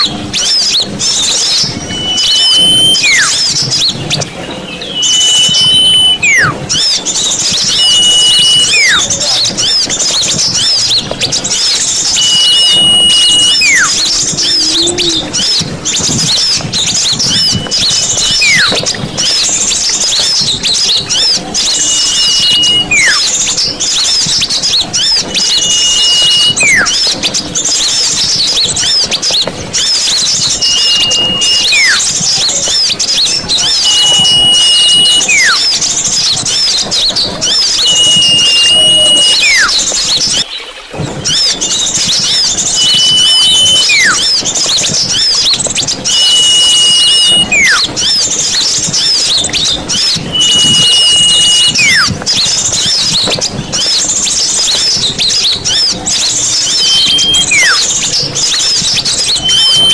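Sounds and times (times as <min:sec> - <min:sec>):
high downward sliding whistle: 0:00.0 - 0:27.2, 0:27.9 - 0:40.4, 0:41.2 - 0:59.9
small birds twittering: 0:00.0 - 0:59.9.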